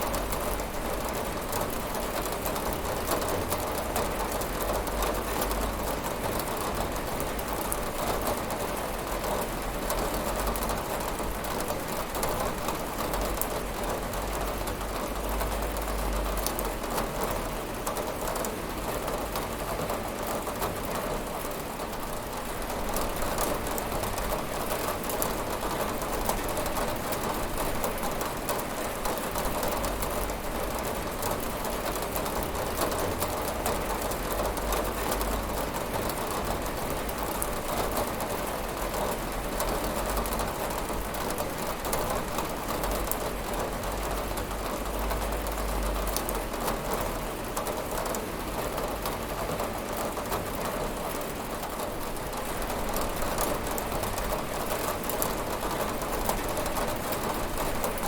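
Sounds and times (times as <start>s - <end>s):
rain on a window: 0.0s - 58.0s.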